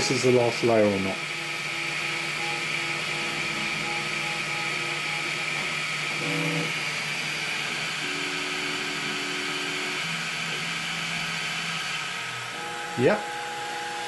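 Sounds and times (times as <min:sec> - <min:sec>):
printer cooling fans whine: 0:00.0 - 0:14.0
stepper motor notes: 0:00.0 - 0:14.0.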